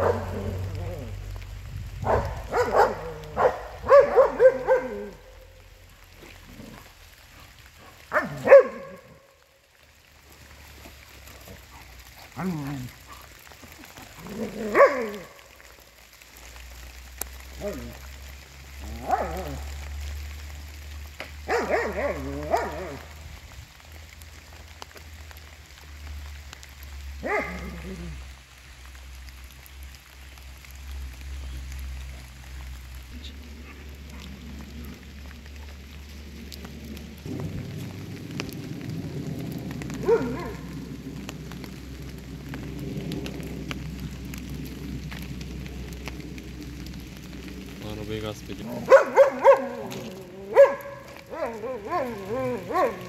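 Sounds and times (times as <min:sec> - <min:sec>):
rain pattering: 0:00.0 - 0:53.0.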